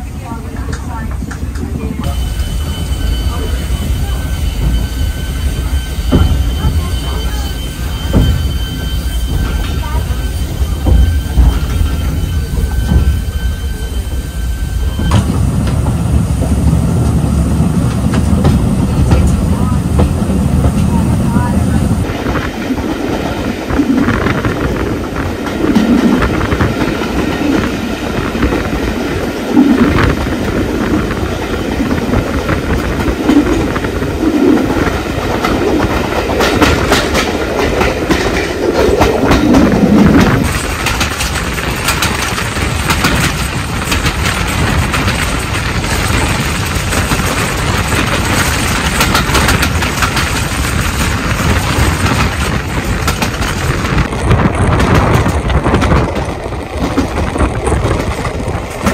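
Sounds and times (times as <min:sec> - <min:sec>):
train carriages rumbling: 0:00.0 - 0:58.9
wheels clacking over rail joints: 0:00.0 - 0:58.9.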